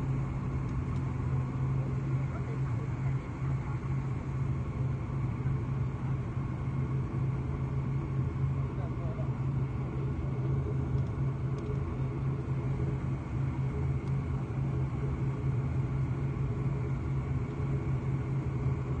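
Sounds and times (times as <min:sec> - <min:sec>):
airplane cabin rumble and hum: 0:00.0 - 0:19.0.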